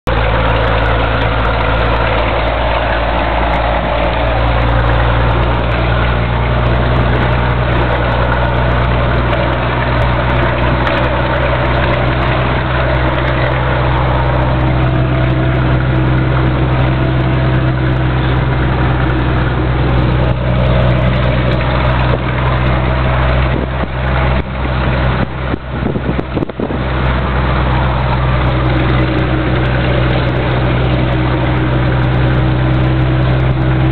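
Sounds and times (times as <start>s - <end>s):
truck diesel engine pulling uphill: 0.0s - 33.9s.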